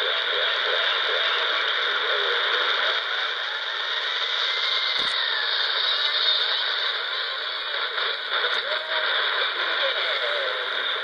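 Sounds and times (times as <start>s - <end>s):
faint radio broadcast: 0.0s - 11.0s
radio static and hiss: 0.0s - 11.0s.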